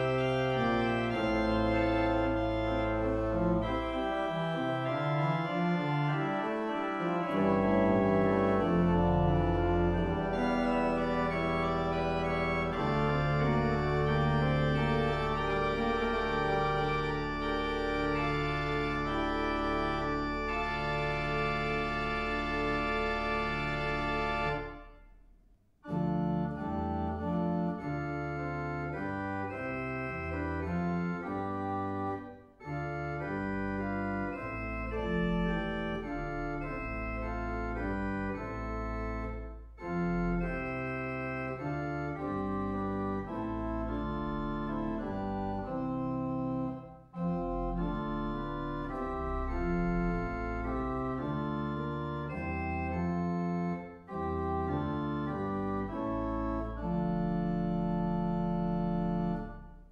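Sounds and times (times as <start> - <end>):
pipe organ chorale: 0.0 - 25.0, 25.8 - 59.9.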